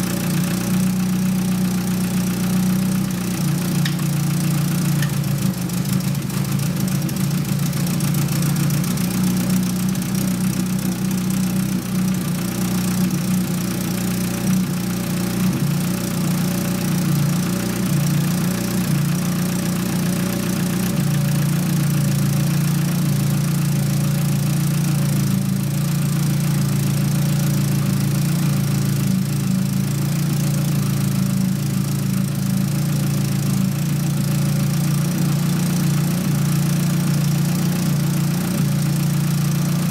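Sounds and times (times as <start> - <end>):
car engine idling unevenly: 0.0 - 39.9
engine knocking: 0.0 - 39.9.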